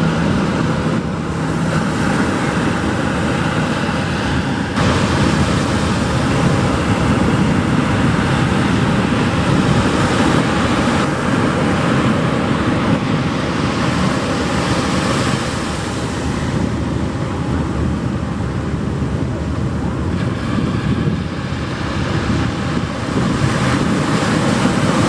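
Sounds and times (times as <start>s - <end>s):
ocean surf breaking: 0.0s - 25.0s
wind on microphone: 0.0s - 25.0s.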